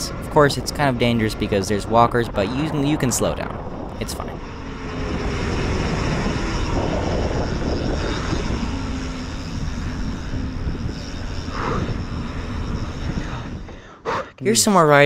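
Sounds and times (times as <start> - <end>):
bike tyre noise: 0.0 - 14.3
wind rushing over microphone: 0.0 - 15.0.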